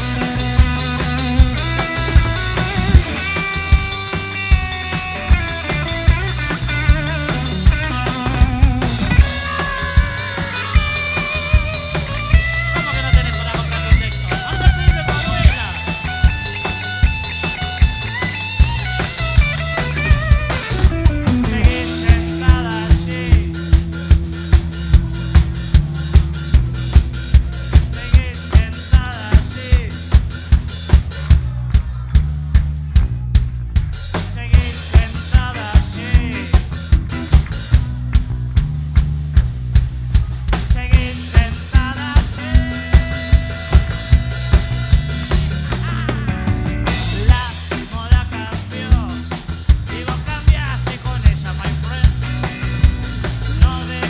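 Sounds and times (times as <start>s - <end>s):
drum hits: 0.0s - 54.0s
live rock band playing: 0.0s - 54.0s.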